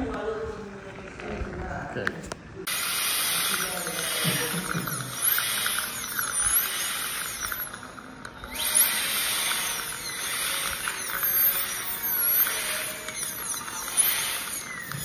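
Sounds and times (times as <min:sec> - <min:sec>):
dental drill whining: 0:02.7 - 0:15.0.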